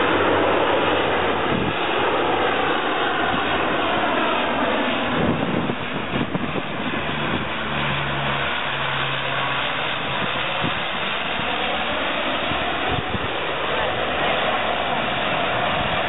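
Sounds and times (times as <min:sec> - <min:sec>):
propeller plane droning overhead: 0:00.0 - 0:16.0.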